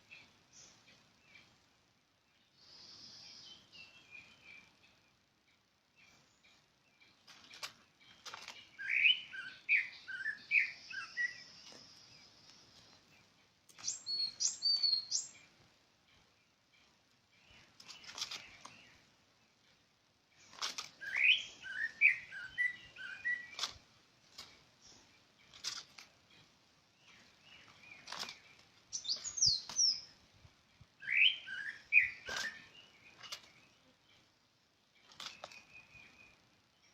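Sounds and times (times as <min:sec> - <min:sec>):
bird chirping song: 0:00.0 - 0:36.9.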